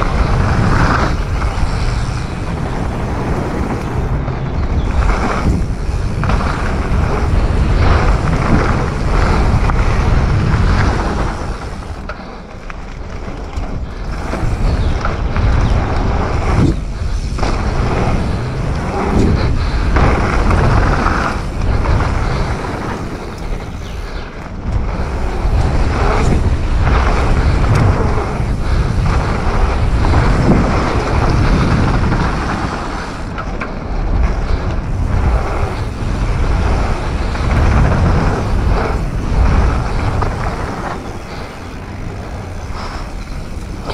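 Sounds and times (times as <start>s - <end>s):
bike knocks and rattles: 0.0s - 43.9s
bike tyres running over dirt: 0.0s - 43.9s
wind buffeting microphone: 0.0s - 43.9s.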